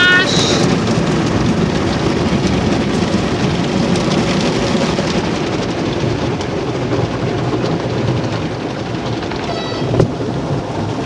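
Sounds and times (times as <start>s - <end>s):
car wash water spray: 0.0s - 11.0s.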